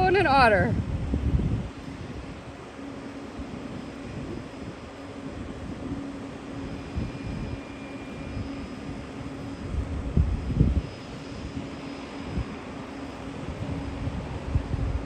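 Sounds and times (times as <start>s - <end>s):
floatplane engine droning: 0.0s - 15.0s
wind gusting on microphone: 0.0s - 15.0s.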